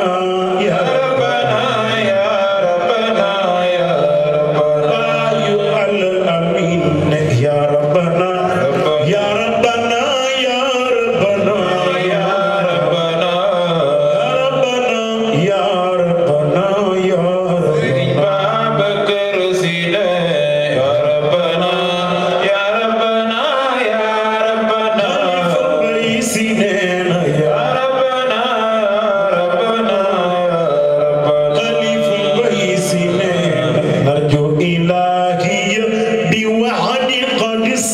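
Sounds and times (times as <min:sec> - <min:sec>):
man chanting into a microphone: 0:00.0 - 0:37.9.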